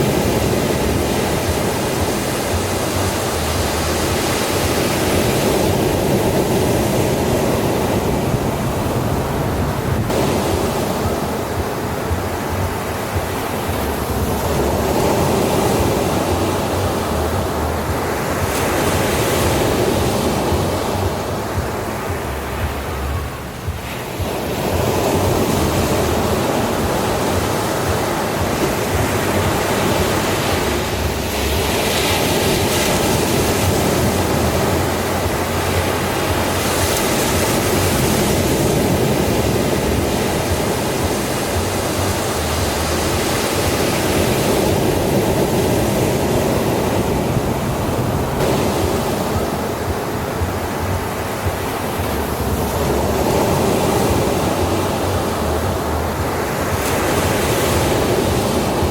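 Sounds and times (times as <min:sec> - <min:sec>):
ocean waves washing: 0:00.0 - 0:58.9.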